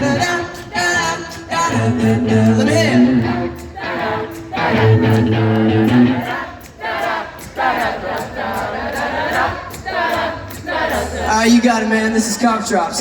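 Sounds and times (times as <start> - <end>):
crowd singing along: 0.0 - 13.0.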